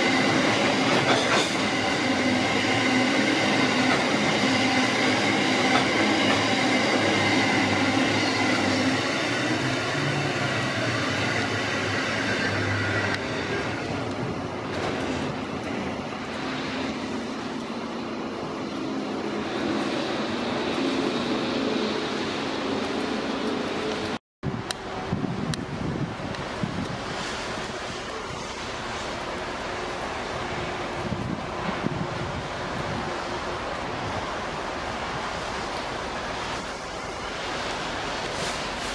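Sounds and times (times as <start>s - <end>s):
train wagons rolling past: 0.0s - 38.9s
rain hiss: 6.0s - 38.9s.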